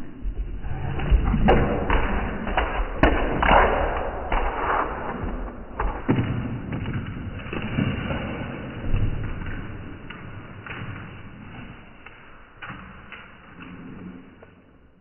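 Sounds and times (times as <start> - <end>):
puppy paws thudding on floor: 1.0 - 14.0.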